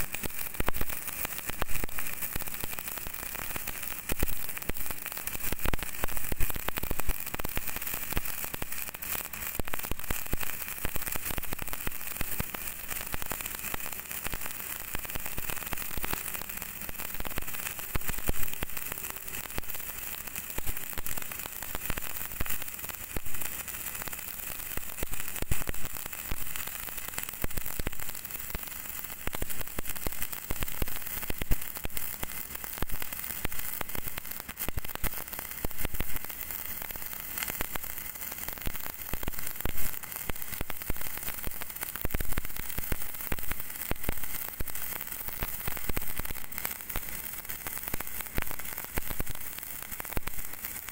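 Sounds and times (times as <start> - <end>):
welding arc crackling: 0.0 - 50.9.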